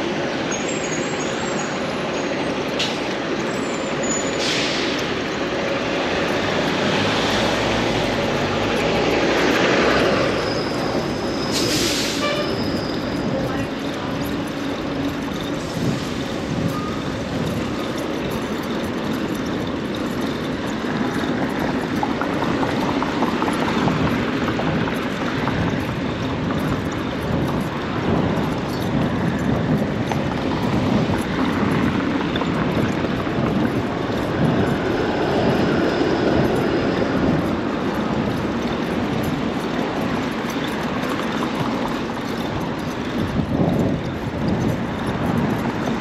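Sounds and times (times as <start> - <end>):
city traffic din: 0.0 - 46.0.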